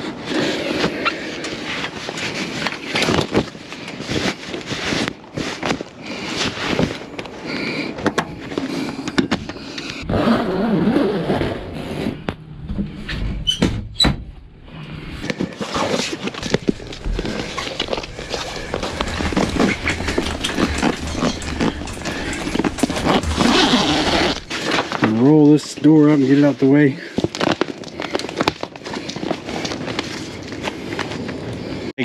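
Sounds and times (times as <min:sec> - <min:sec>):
vinyl and canvas rustling: 0:00.0 - 0:12.3, 0:15.0 - 0:31.8.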